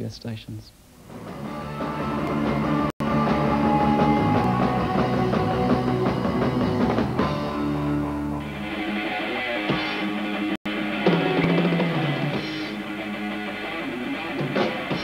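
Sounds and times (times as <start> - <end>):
rock band playing: 1.1 - 15.0.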